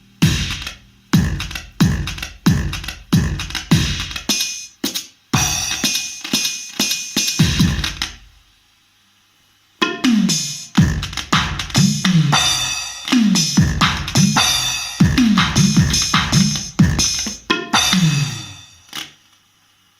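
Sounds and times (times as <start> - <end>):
cymbal and hi-hat hits: 0.0 - 8.4, 9.8 - 19.0
electronic kick drums: 0.0 - 8.4, 9.8 - 18.6.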